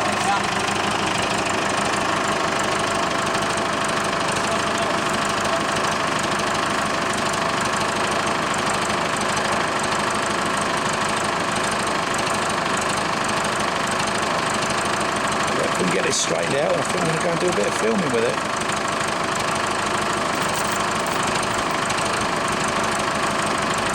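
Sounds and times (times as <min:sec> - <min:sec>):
tractor engine idling: 0:00.0 - 0:23.9.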